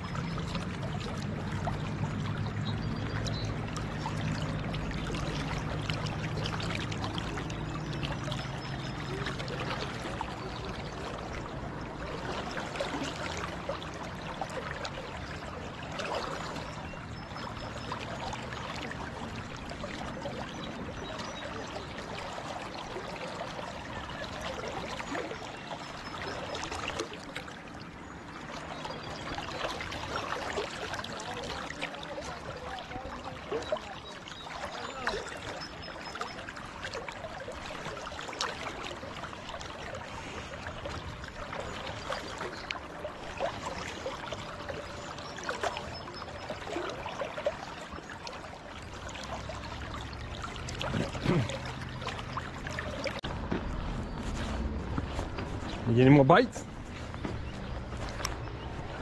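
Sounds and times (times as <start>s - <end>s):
river current rushing and gurgling: 0.0s - 59.0s.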